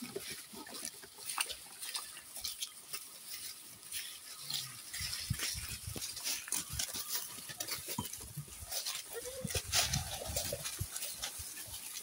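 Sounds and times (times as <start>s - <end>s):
goats chewing: 0.0s - 12.0s
leaves and twigs rustling: 0.0s - 12.0s.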